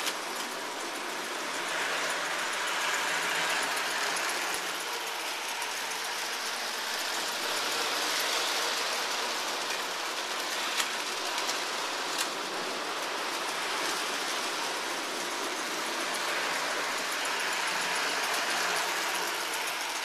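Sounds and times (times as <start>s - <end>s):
toy train rolling and whirring: 0.0s - 20.0s.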